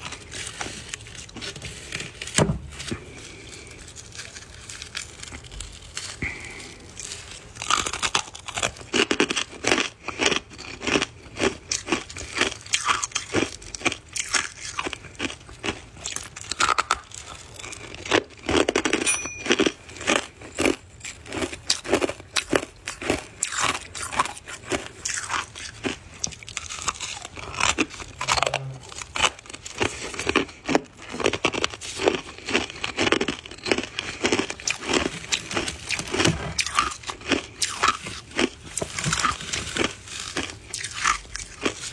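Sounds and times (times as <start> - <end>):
ice being chewed crunching: 0.0 - 41.9.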